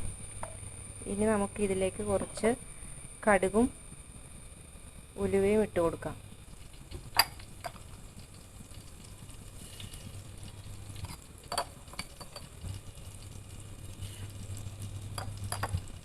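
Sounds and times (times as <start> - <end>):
low steady hum: 0.0 - 16.0
seeds sizzling in hot oil: 0.0 - 16.0.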